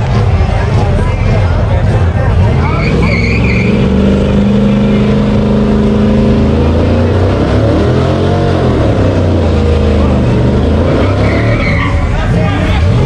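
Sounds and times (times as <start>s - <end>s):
car engine revving high: 1.8s - 13.0s.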